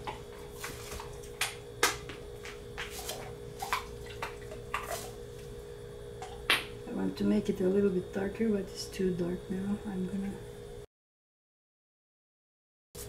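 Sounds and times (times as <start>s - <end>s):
steady hum: 0.0s - 10.9s.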